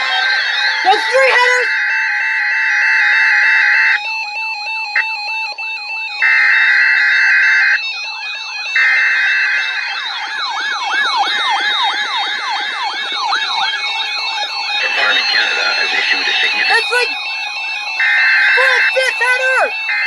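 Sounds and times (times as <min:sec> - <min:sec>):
swooping siren-like alert tone: 0:00.0 - 0:20.0.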